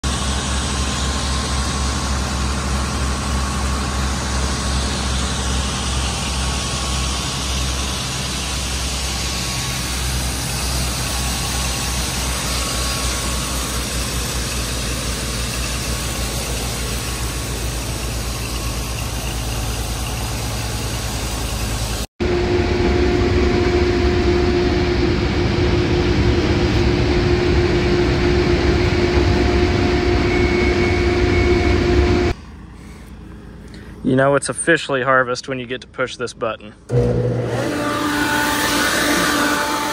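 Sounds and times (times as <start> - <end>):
low engine drone: 0.0 - 36.0
combine harvester hum: 0.0 - 39.9
constant whine: 0.0 - 39.9.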